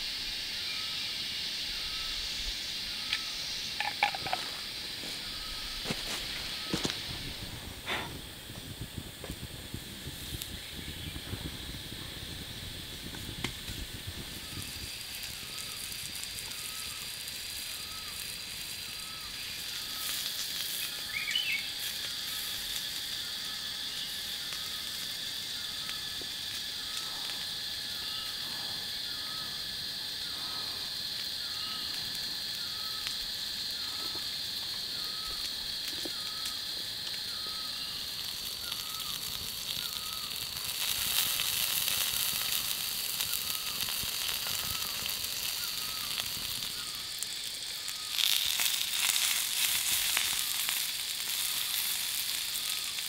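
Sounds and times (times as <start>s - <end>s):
crackling hiss: 0.0s - 53.0s
high-pitched insect drone: 0.0s - 53.0s.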